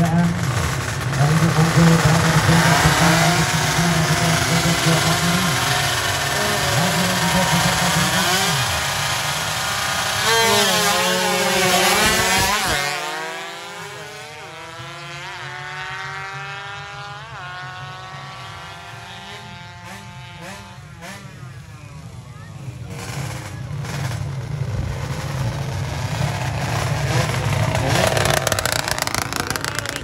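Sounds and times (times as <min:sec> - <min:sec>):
motorcycle revving past: 0:00.0 - 0:21.6, 0:22.8 - 0:30.0.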